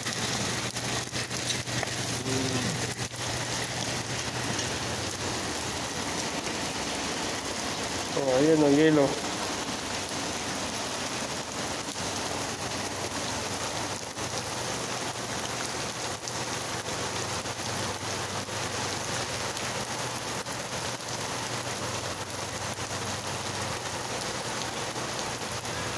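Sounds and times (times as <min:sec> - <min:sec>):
hailstones ticking on ground: 0:00.0 - 0:25.9
rain pattering on pavement: 0:00.0 - 0:25.9.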